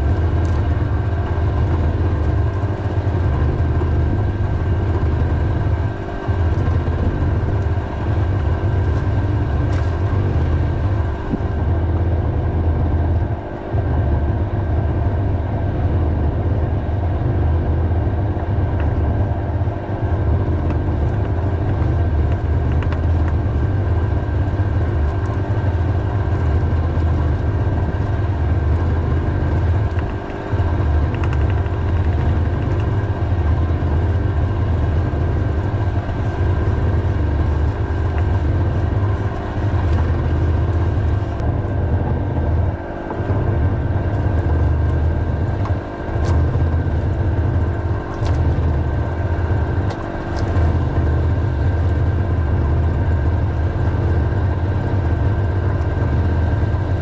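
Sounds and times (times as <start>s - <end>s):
engine running with low hum: 0.0s - 57.0s.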